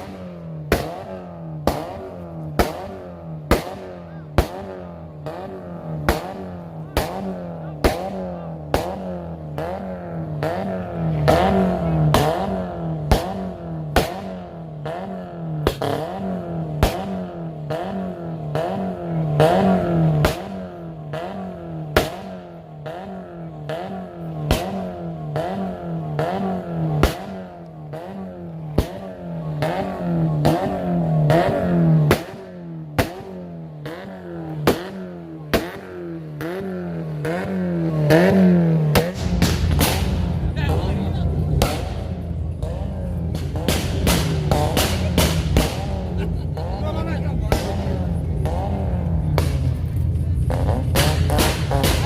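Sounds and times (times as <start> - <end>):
car engine revving: 0.0 - 52.0
exhaust cracks: 0.0 - 52.0.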